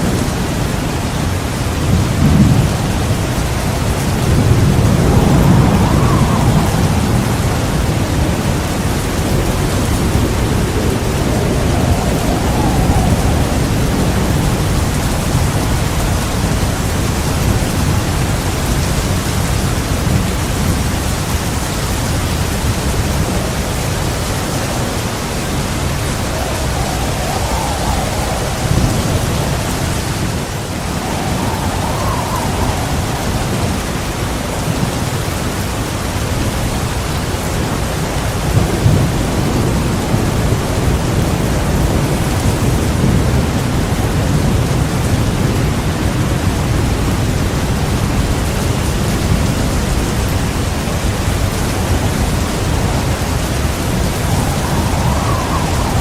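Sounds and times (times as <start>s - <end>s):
heavy rain falling: 0.0s - 56.0s
low rumbling thunder: 0.0s - 56.0s.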